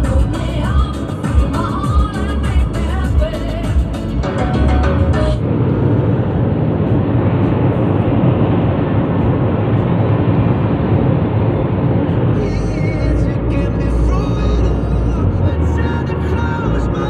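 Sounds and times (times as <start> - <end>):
car road noise from inside: 0.0 - 17.0.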